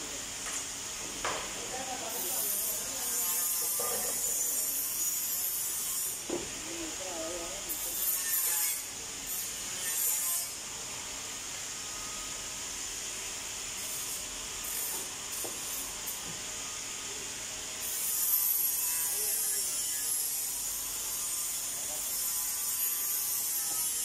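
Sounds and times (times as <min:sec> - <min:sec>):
hissing workshop machinery: 0:00.0 - 0:24.0.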